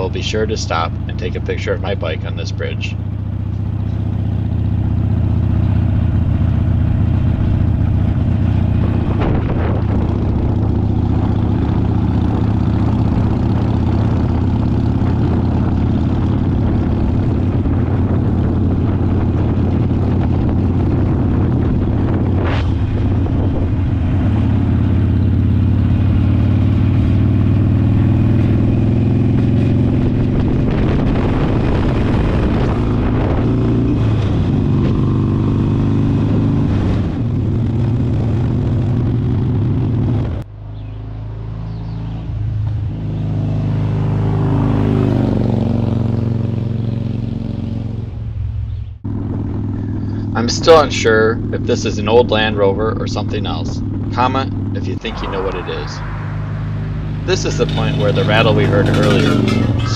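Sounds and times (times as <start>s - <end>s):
motorcycle cruising: 0.0s - 59.9s.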